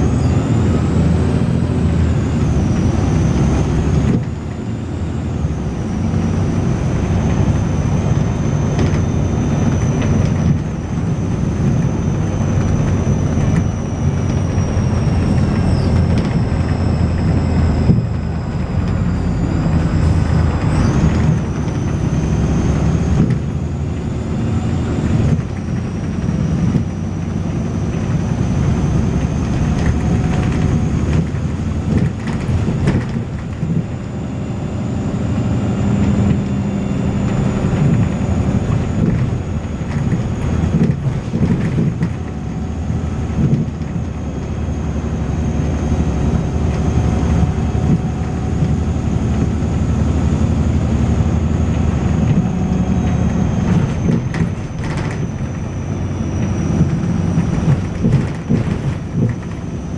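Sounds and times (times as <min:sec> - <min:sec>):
bus diesel engine rumble: 0:00.0 - 0:59.9
high-pitched whine: 0:00.0 - 0:59.9.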